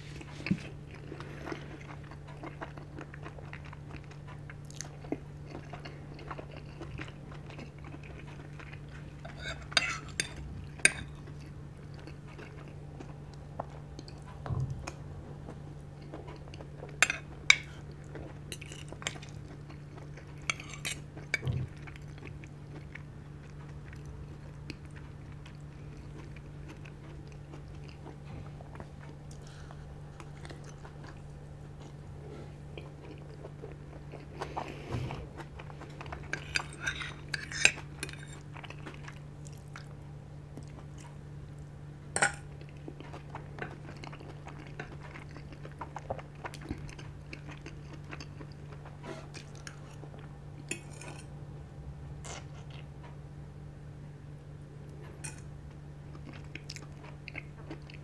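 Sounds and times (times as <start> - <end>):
chewing and crunching: 0.0 - 51.4, 52.1 - 53.3, 54.8 - 58.0
steady low hum: 0.0 - 58.0.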